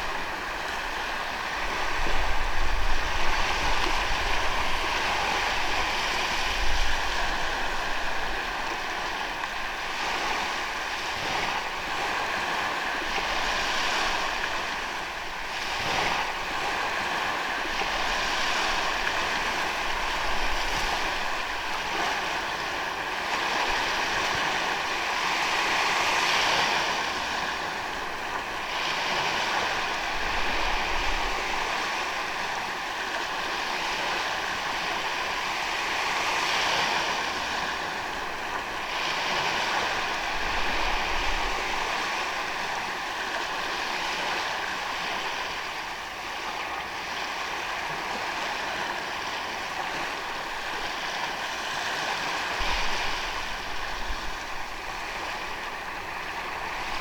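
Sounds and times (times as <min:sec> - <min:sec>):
ocean waves on sandy beach: 0:00.0 - 0:57.0.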